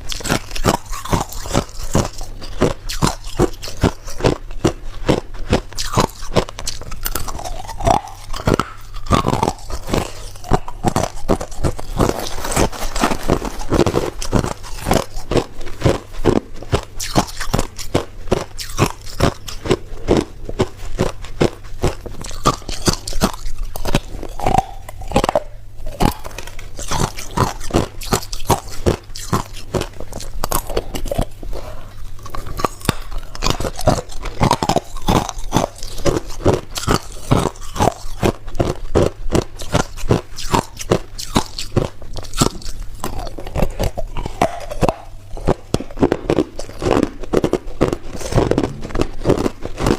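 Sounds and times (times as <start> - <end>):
person crunching ice: 0.0 - 49.9.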